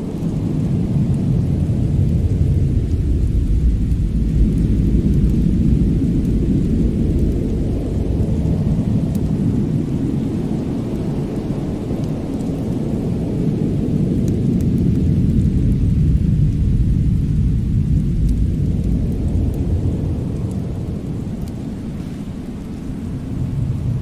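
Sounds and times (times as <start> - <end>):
faint fire crackles: 0.0 - 24.0
low rumbling storm noise: 0.0 - 24.0.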